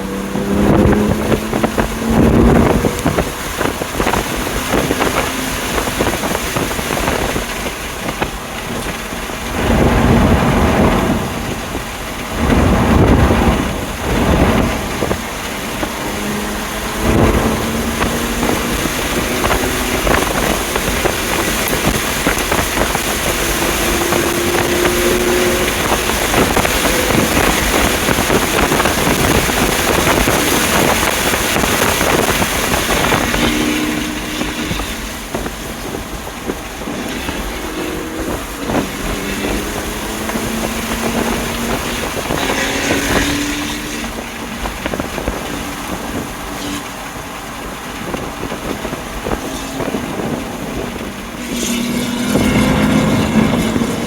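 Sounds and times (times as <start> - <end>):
car engine driven hard: 0.0 - 54.0
wind noise: 0.0 - 54.0.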